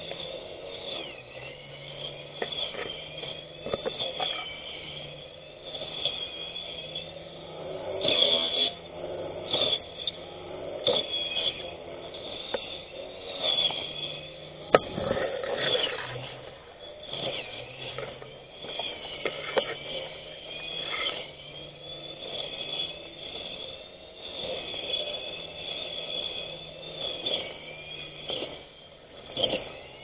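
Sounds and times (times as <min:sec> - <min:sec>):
electric grass cutter whine: 0:00.0 - 0:30.0
grass cutter scraping: 0:00.0 - 0:30.0.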